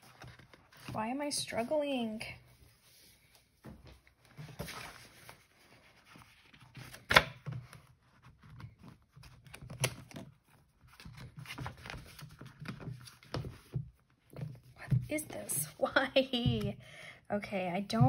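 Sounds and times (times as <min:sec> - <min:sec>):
paper and leather rustling: 0:00.0 - 0:03.3, 0:04.0 - 0:16.7.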